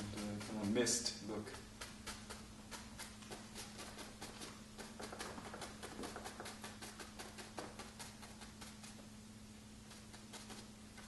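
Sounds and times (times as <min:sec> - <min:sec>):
ink brush tapping paper: 0:00.0 - 0:09.0.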